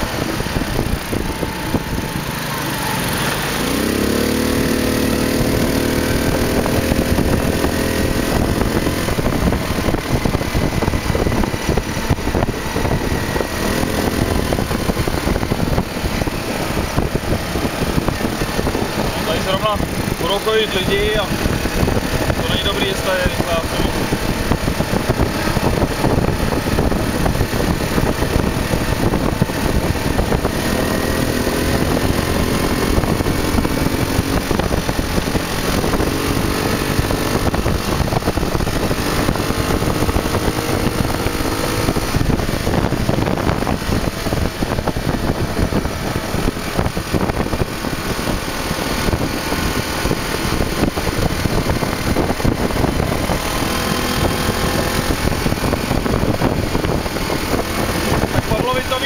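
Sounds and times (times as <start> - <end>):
buggy engine running: 0.0 - 59.0
road noise: 0.0 - 59.0
wind noise: 0.0 - 59.0.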